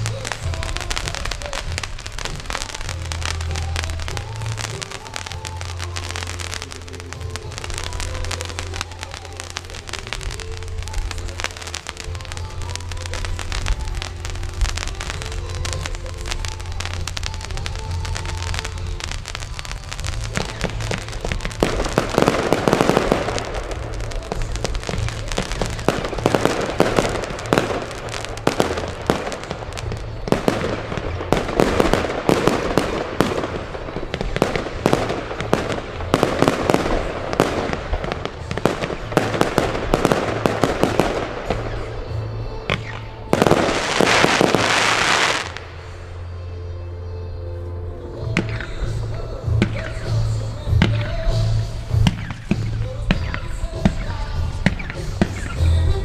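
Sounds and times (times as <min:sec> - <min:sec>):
fireworks bangs and crackle: 0:00.0 - 0:46.6, 0:48.0 - 0:56.0
dense crackling burst: 0:00.0 - 0:46.8, 0:47.5 - 0:56.0.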